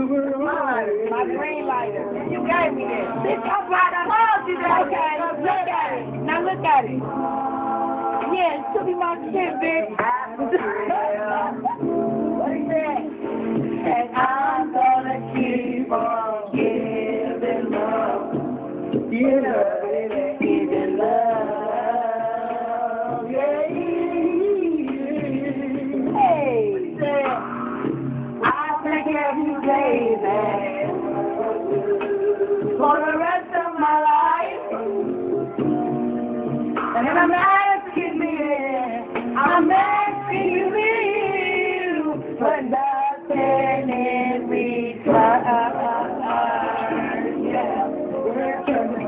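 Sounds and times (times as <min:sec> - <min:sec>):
two people singing unaccompanied: 0:00.0 - 0:27.5, 0:28.4 - 0:35.7, 0:37.0 - 0:49.0
musical accompaniment: 0:00.0 - 0:49.0.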